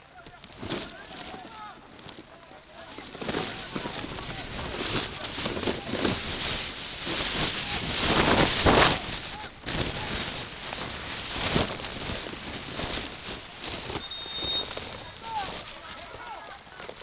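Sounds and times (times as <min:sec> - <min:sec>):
faint distant voices: 0:00.0 - 0:17.0.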